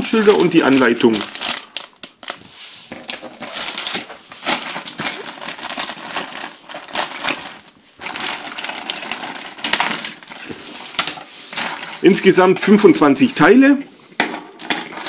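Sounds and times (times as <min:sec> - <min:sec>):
plastic bag crinkling: 0:00.0 - 0:13.6, 0:14.2 - 0:15.0.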